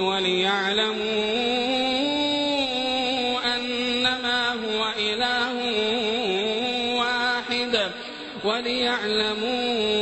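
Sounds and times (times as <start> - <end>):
person reciting a long note: 0.0 - 10.0.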